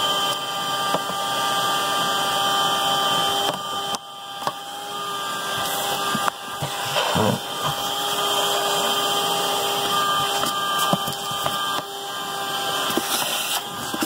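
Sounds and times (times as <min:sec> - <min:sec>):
vacuum cleaner whining on carpet: 0:00.0 - 0:14.0.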